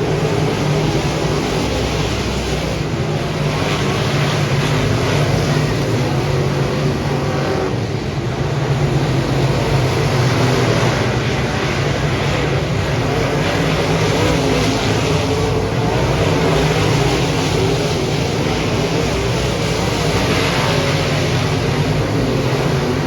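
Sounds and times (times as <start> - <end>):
race car engine running hard: 0.0 - 23.0.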